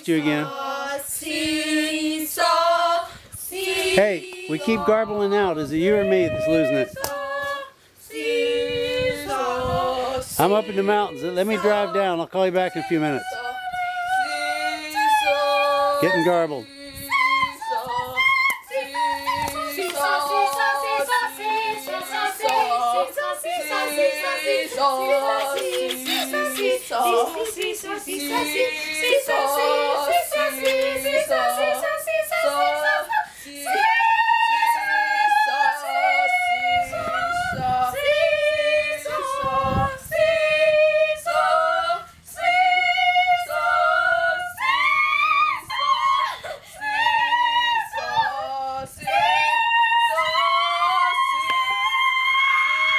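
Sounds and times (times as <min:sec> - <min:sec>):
girls singing together: 0:00.0 - 0:52.9.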